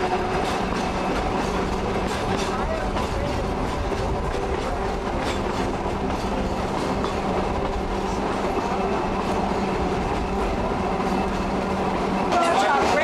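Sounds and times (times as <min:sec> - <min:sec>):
trolley car wheels rumbling on rails: 0:00.0 - 0:13.0.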